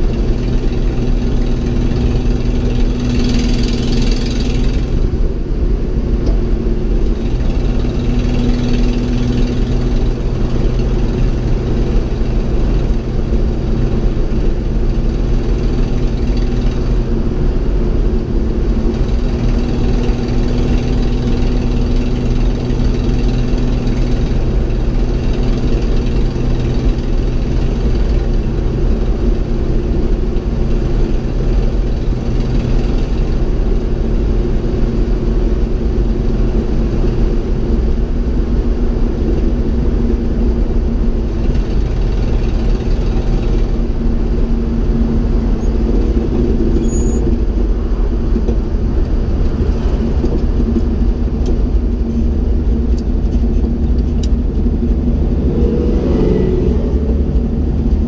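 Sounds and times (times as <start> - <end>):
road rumble: 0.0 - 58.0
truck engine running: 0.0 - 58.0.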